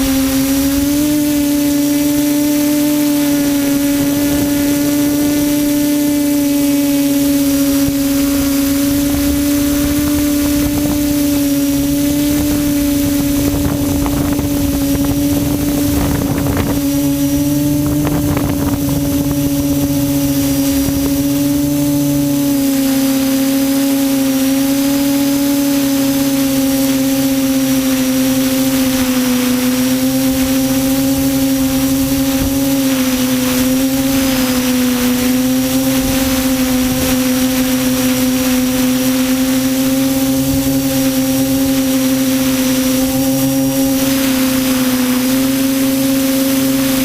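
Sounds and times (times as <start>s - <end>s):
quadcopter motors humming: 0.0s - 47.0s.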